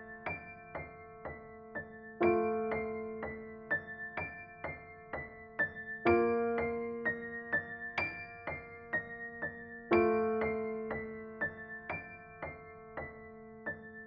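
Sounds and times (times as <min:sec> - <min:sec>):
soft piano notes: 0:00.0 - 0:14.0.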